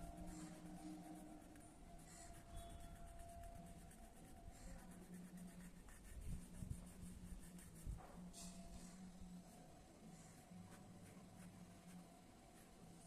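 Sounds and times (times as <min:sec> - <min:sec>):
pencil scratching on paper: 0:00.0 - 0:09.0, 0:10.6 - 0:13.0
steady low hum: 0:00.0 - 0:13.0.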